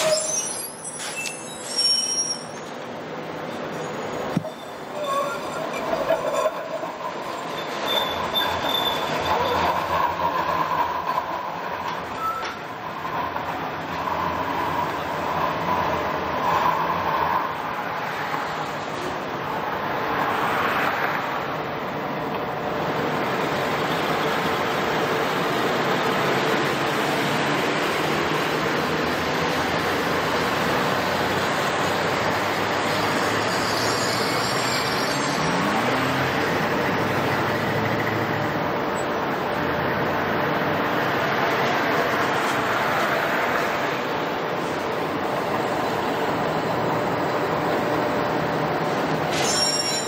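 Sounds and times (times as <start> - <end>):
light rail wheels and motors: 0.0 - 50.0.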